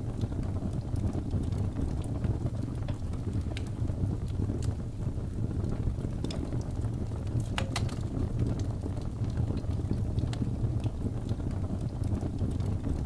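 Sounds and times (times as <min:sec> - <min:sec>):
fire crackling and popping: 0:00.0 - 0:13.0
wood fire rumbling: 0:00.0 - 0:13.0.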